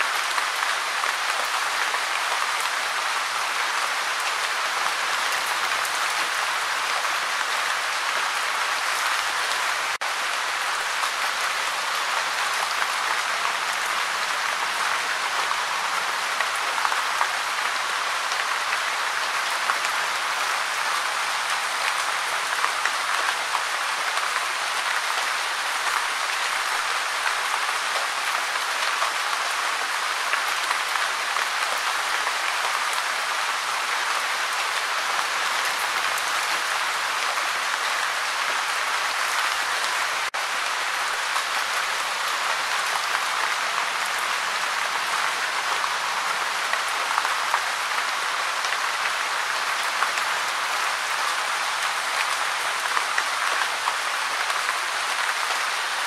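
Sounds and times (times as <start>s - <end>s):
light steady rain: 0.0s - 56.0s.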